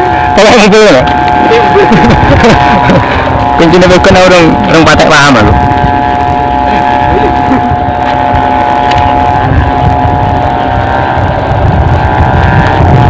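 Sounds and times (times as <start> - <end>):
kite hummer drone: 0.0 - 13.0
wind rumble on microphone: 0.0 - 13.0.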